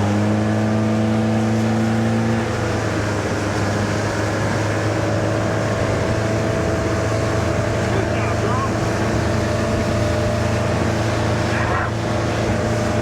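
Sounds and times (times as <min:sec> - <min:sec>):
motorboat engine running: 0:00.0 - 0:13.0
wind: 0:00.0 - 0:13.0
water rushing: 0:00.8 - 0:13.0.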